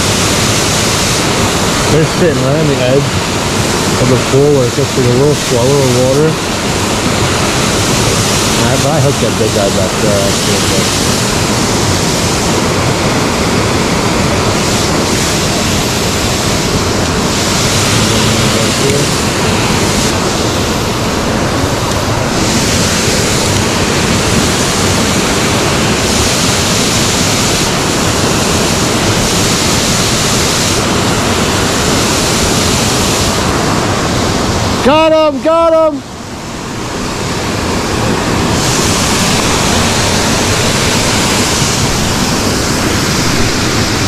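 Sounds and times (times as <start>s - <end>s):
creek water rushing over stones: 0.0s - 44.0s.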